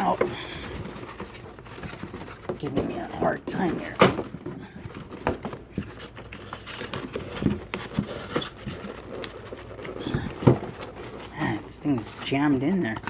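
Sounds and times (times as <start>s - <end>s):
styrofoam knocking and squeaking: 0.0s - 13.0s.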